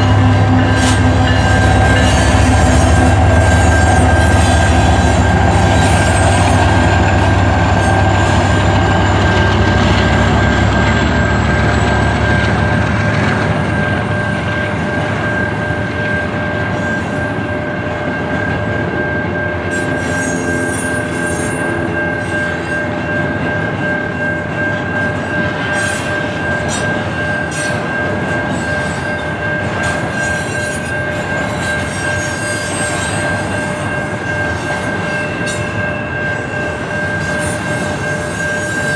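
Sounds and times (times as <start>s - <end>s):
railcars rolling: 0.0s - 38.9s
train rumbling past: 0.0s - 38.9s
train wheel squeal: 0.0s - 38.9s.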